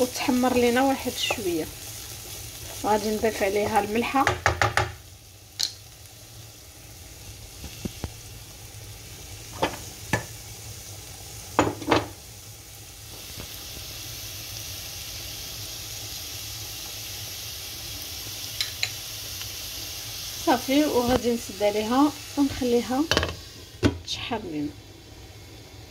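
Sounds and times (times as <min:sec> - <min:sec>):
onions sizzling in frying pan: 0:00.0 - 0:25.9.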